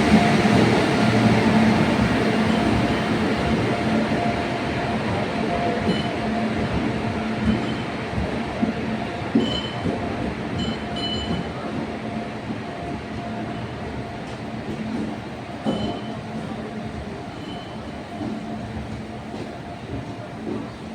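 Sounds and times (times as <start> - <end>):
freight train rumbling past: 0.0 - 20.9.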